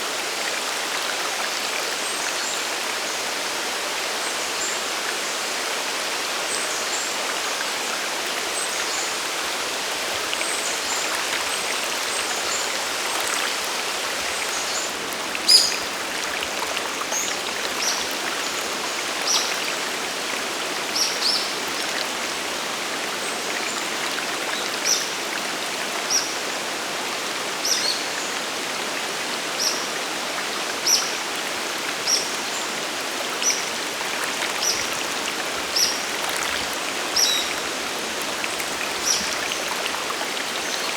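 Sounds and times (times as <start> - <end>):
waterfall and stream rushing: 0.0 - 40.9.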